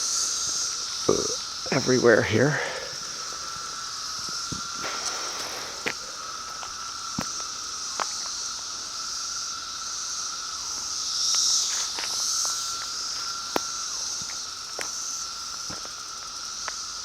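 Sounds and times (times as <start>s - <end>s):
cicadas shrilling: 0.0s - 17.0s
low cicada drone: 0.0s - 17.0s.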